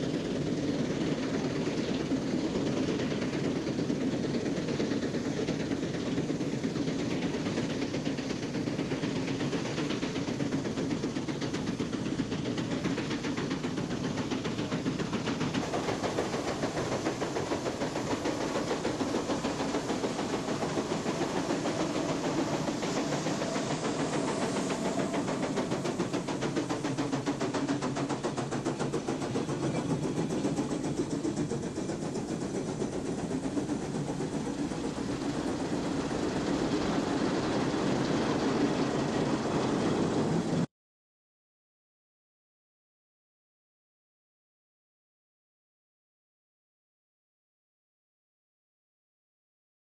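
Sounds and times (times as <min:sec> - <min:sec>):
hiss of steam: 0:00.0 - 0:40.7
steam engine exhaust beat: 0:00.0 - 0:40.7.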